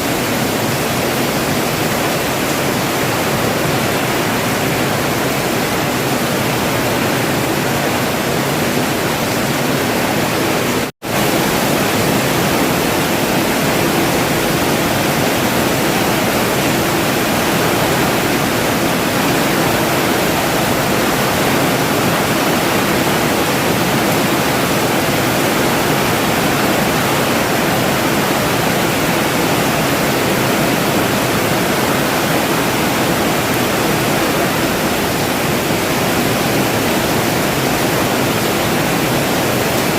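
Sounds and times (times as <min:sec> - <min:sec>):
steady rain hiss: 0:00.1 - 0:39.9.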